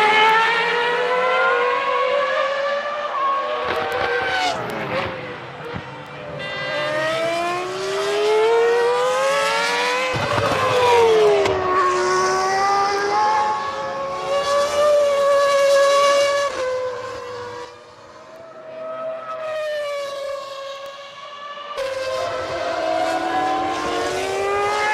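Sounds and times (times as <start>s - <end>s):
racing car engines revving: 0.0s - 24.9s.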